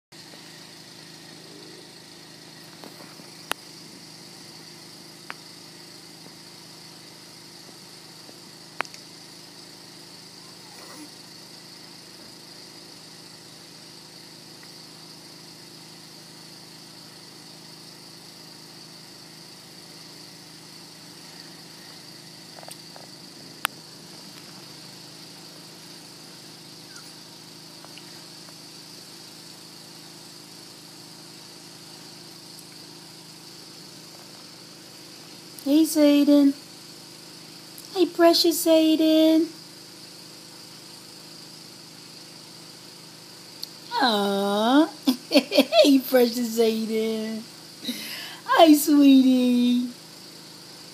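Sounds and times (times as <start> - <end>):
room noise hum and hiss: 0.2 - 50.9.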